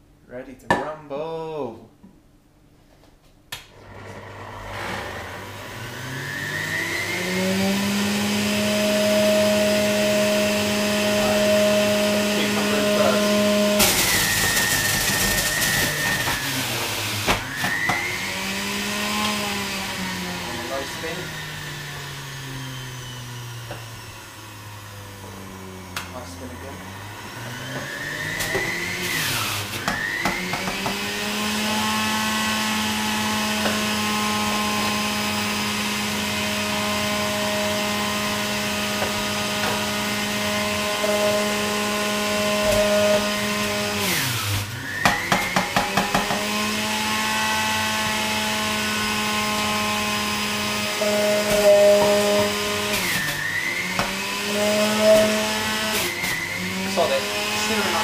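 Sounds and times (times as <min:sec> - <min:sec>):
juicer motor whine: 0:03.6 - 0:58.0.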